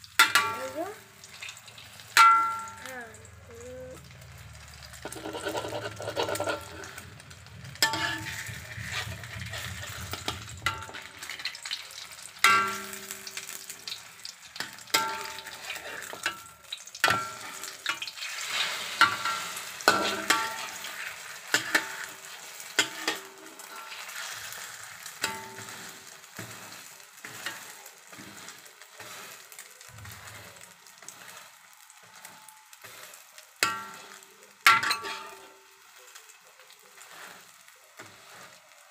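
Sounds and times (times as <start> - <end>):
omelette sizzling in oil: 0.0 - 38.9.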